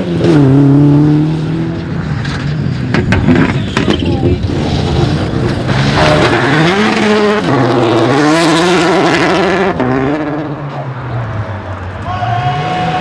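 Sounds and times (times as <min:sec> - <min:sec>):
rally car engine revving: 0:00.0 - 0:11.7.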